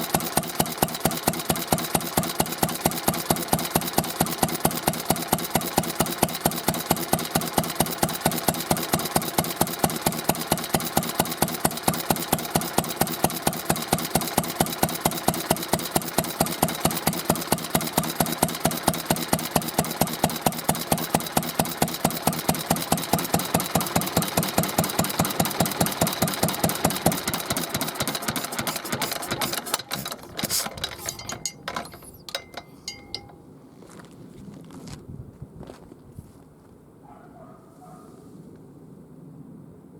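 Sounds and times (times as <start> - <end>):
stationary engine running: 0.0 - 33.3.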